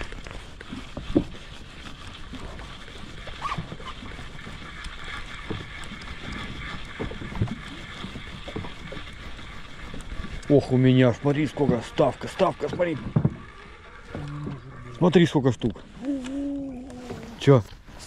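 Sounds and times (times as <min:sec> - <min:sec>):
water against hull: 0:00.0 - 0:18.0.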